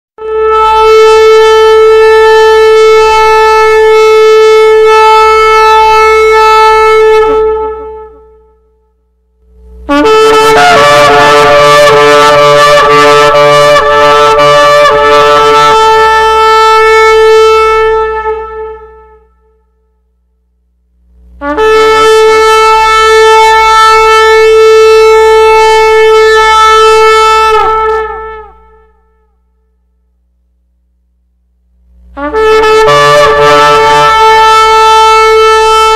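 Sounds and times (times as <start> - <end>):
shofar blasts: 0.2 - 8.9, 9.5 - 20.0, 21.4 - 29.7, 32.1 - 35.9.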